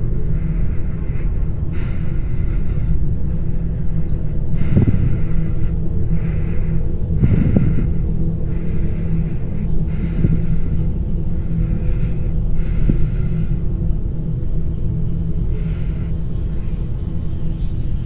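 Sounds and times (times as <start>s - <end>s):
breathing close to microphone: 0.0s - 14.6s, 15.2s - 16.9s
steady low rumble: 0.0s - 18.0s.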